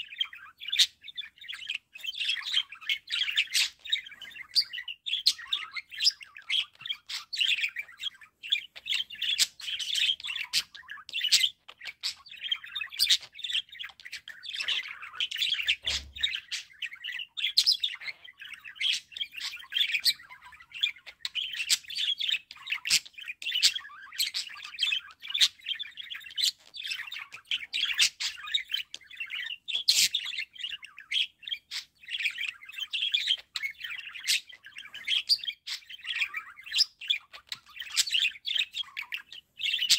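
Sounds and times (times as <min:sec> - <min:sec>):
budgerigars warbling: 0:00.0 - 0:39.9.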